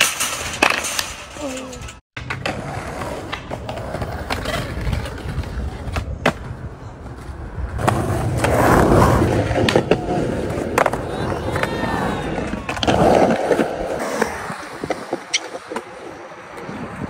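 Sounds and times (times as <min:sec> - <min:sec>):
skateboard wheels rolling on concrete: 0:00.0 - 0:17.0
skateboard clacks: 0:02.2 - 0:16.8.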